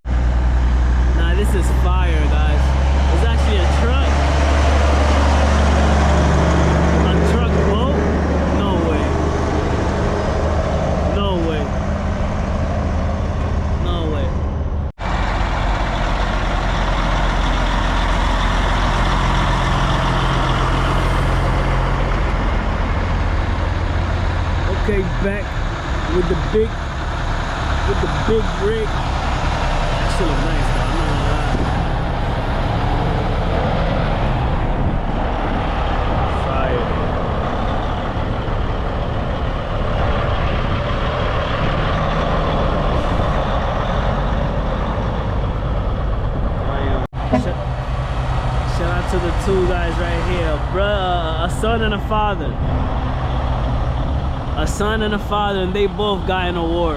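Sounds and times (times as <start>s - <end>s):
diesel truck engine running: 0.0s - 56.9s.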